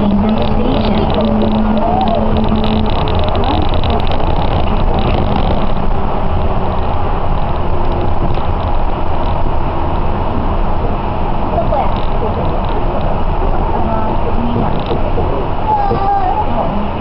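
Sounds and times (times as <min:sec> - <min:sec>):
train tyres rumbling on guideway: 0:00.0 - 0:17.0.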